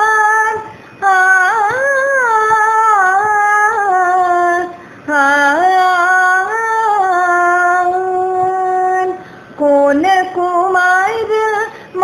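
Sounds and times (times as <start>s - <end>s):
woman singing devotional song: 0.0s - 12.0s.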